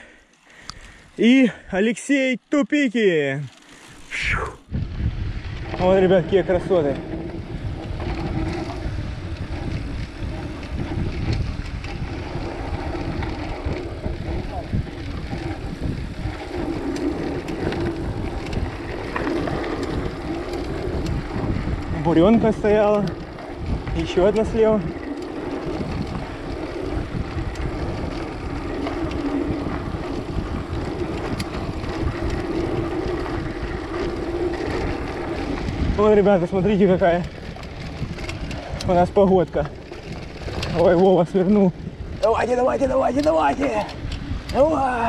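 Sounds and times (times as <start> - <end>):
tyres rolling over dirt: 3.0 - 45.0
wind buffeting microphone: 3.8 - 45.0.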